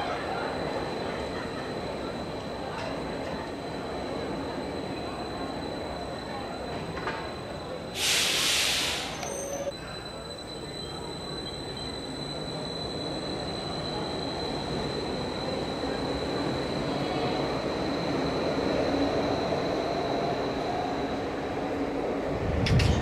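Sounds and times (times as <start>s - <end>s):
high-pitched train whine: 0.0s - 23.0s
train rolling rumble: 0.0s - 23.0s.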